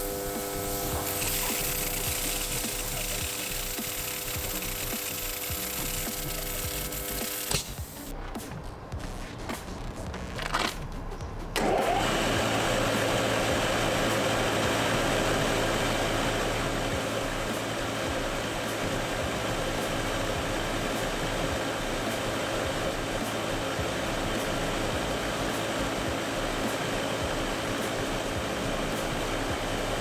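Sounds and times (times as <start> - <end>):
machine blowing air with hum: 0.0 - 8.1, 11.6 - 30.0.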